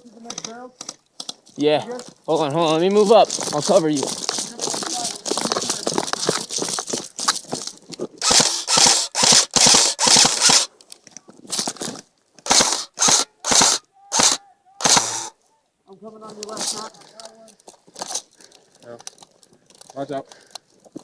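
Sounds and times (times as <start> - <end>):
footsteps crunching undergrowth: 0.0 - 15.4, 16.1 - 21.0.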